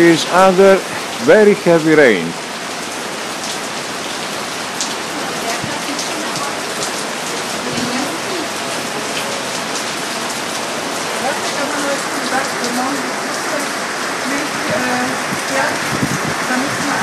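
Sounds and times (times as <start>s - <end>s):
heavy rain: 0.0s - 17.0s
raindrops ticking close by: 0.0s - 17.0s.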